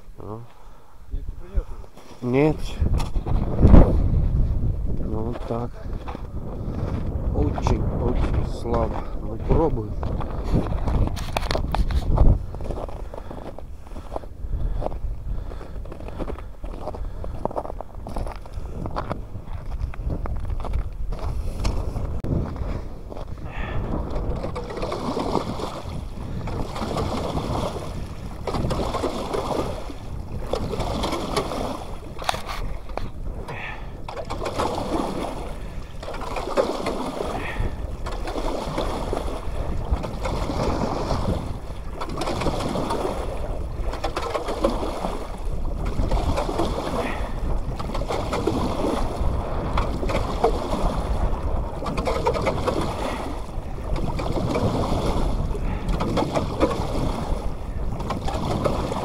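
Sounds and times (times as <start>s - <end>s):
water sloshing and splashing: 5.4s - 59.0s.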